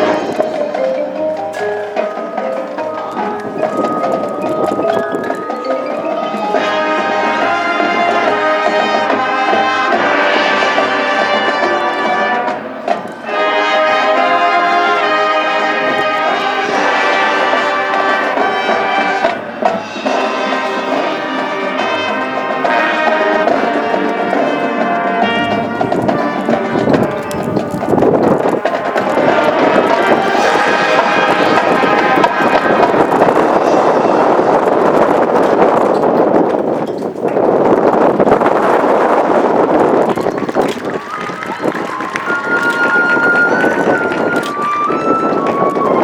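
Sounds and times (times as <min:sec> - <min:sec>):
marching band playing: 0:00.0 - 0:36.4, 0:38.5 - 0:46.0.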